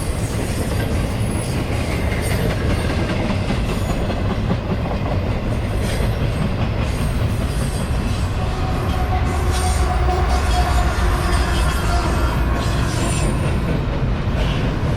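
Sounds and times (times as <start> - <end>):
freight train rumbling past: 0.0 - 14.9.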